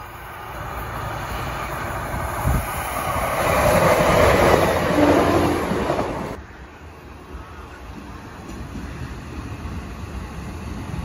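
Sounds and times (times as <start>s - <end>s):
passenger train passing: 0.0s - 11.0s.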